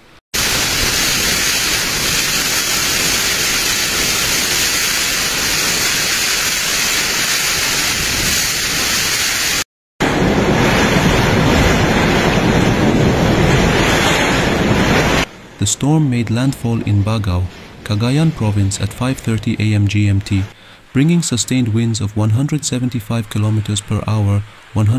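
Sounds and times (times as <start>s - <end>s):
wind and driving rain: 0.0s - 24.9s.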